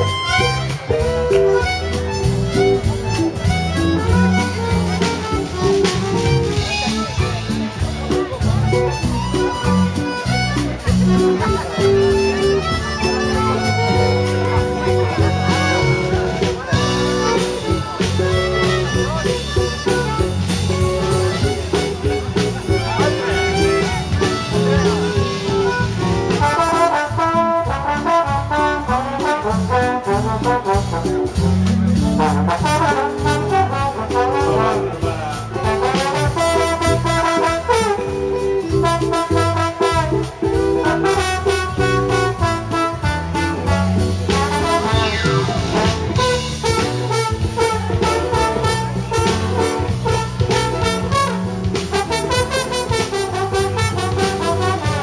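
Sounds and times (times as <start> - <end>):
live band playing dance music: 0.0 - 55.0
trombone lead: 0.0 - 55.0.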